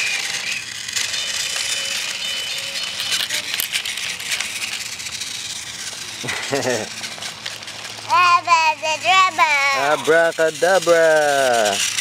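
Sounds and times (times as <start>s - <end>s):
toy train motor whine: 0.0s - 12.0s
wheels rattling on plastic track: 0.0s - 12.0s.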